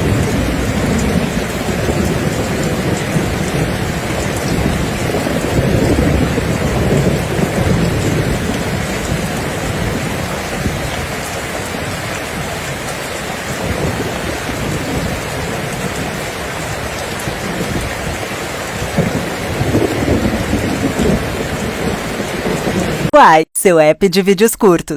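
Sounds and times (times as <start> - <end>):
heavy rain falling: 0.0 - 23.1
rolling thunder: 0.0 - 23.1.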